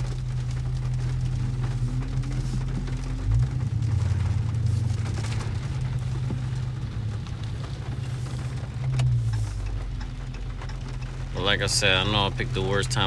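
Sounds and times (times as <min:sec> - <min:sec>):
car engine humming: 0:00.0 - 0:13.0
faint rain pattering on car: 0:00.0 - 0:13.0.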